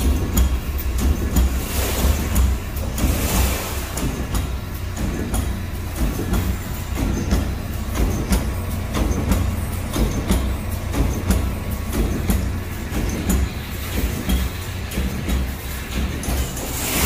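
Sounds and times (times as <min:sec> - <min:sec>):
metallic clicks and knocks: 0:00.0 - 0:01.6, 0:04.0 - 0:16.9
machine humming: 0:00.0 - 0:17.0.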